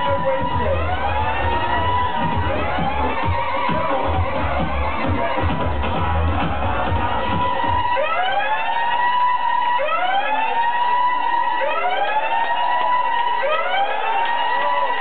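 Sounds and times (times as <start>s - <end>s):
bass beat: 0.0s - 15.0s
siren effect in dance track: 0.0s - 15.0s.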